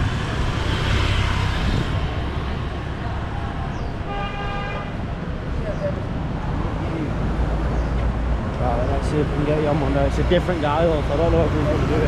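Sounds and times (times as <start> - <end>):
passing vehicles rumble: 0.0 - 12.0.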